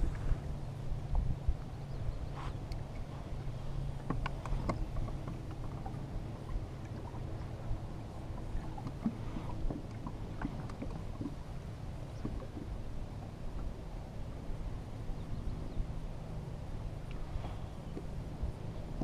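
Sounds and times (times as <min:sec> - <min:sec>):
boat low rumble: 0:00.0 - 0:19.0.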